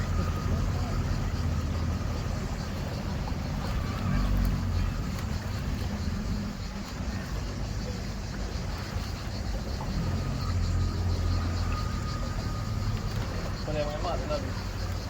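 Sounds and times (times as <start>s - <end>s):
boat engine humming: 0.0s - 15.0s
rushing water noise: 0.0s - 15.0s.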